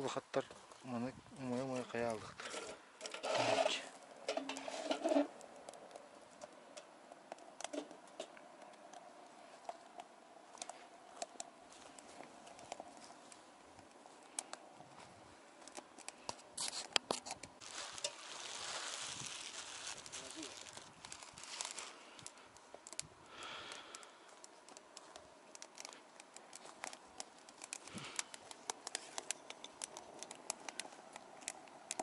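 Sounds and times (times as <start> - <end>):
twigs crackling and popping in fire: 0.0 - 32.0.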